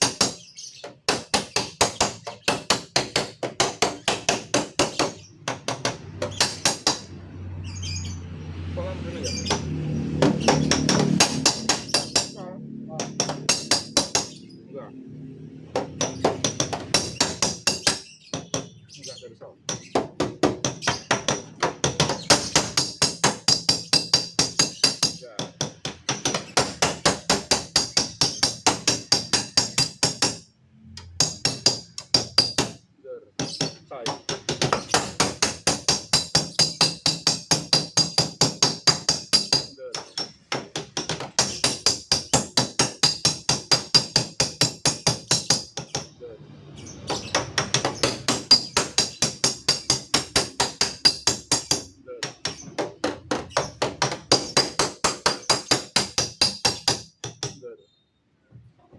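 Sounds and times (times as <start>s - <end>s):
hammer tapping on sheet metal: 0.0s - 7.1s, 9.3s - 14.4s, 15.8s - 18.8s, 19.6s - 46.2s, 47.0s - 57.6s.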